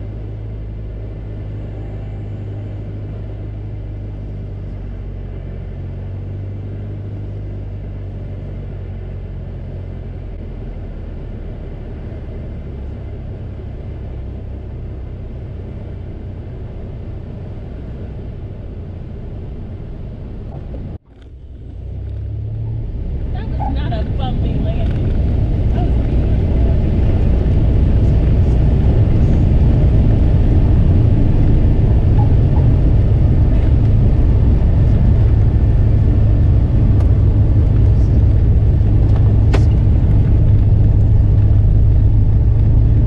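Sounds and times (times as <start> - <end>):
airplane engine and propeller droning: 0.0 - 43.0.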